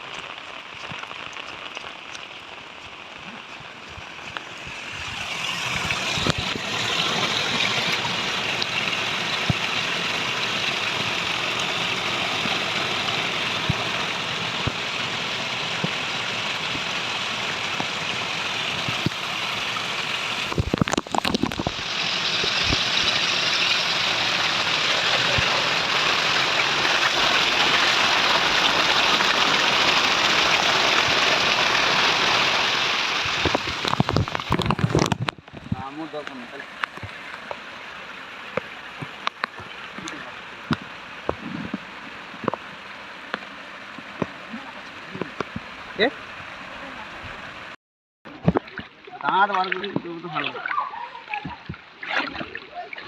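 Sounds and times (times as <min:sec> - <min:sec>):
flood water rushing: 0:00.0 - 0:53.0.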